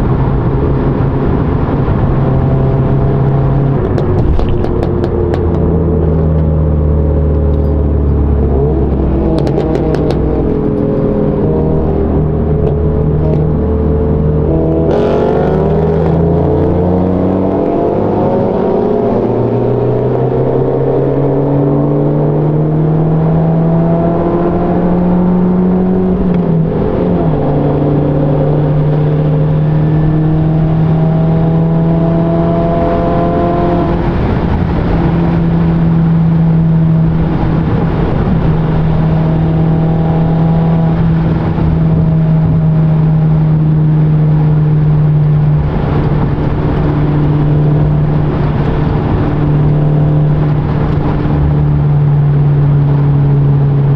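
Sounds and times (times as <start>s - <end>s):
car engine droning: 0.0s - 53.9s
road noise: 0.0s - 53.9s.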